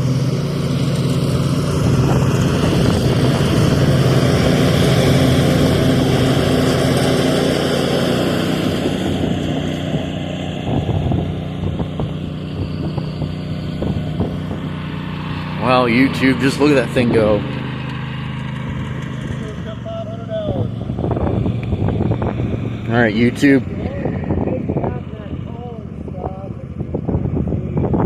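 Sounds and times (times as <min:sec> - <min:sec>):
riding mower engine running: 0:00.0 - 0:28.0.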